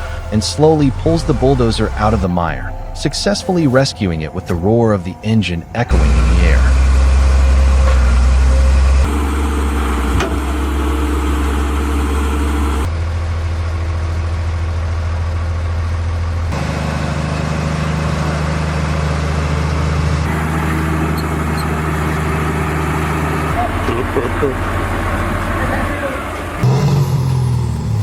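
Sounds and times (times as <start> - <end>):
heavy machinery engines running: 0.0 - 28.0.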